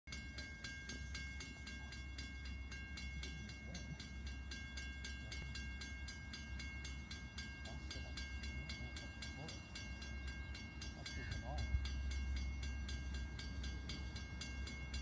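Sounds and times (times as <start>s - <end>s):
freight train rumbling: 0.1s - 15.0s
rapid ringing: 0.1s - 15.0s.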